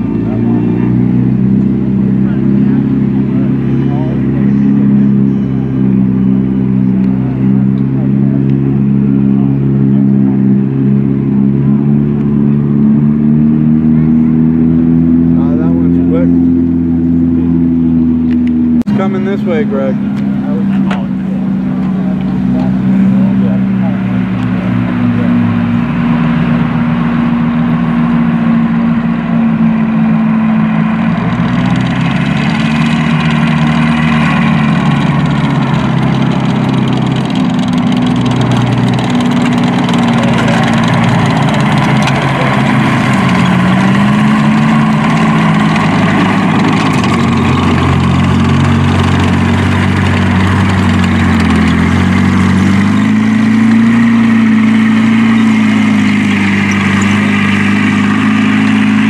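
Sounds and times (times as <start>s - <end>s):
tank engines revving: 0.0s - 59.0s.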